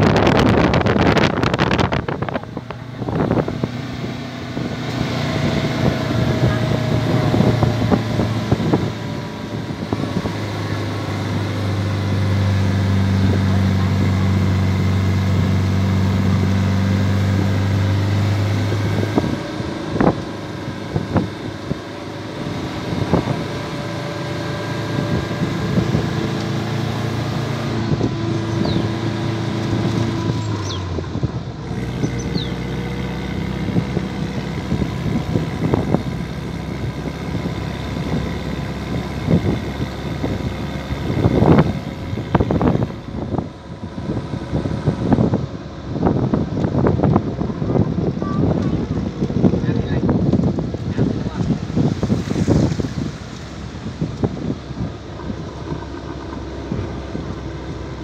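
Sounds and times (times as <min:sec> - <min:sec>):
electric motor hum and whine: 0:00.0 - 0:58.0
wind noise: 0:00.0 - 0:58.0.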